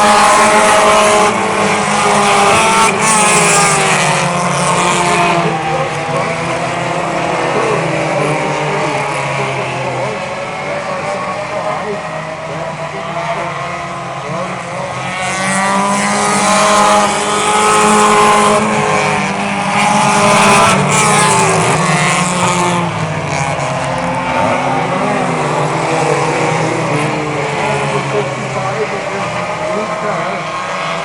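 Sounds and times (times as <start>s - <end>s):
small race car engines passing: 0.0s - 31.0s.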